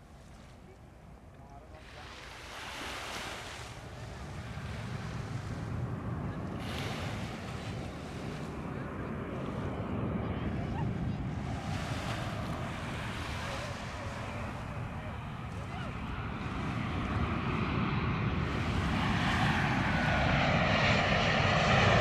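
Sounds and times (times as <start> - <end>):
jet airliner engines rumbling: 0.0 - 22.0
wind gusting on microphone: 2.2 - 22.0.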